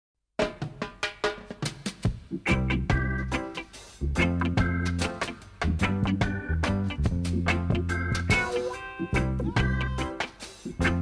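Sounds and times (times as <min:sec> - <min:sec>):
drum strikes: 0:00.4 - 0:11.0.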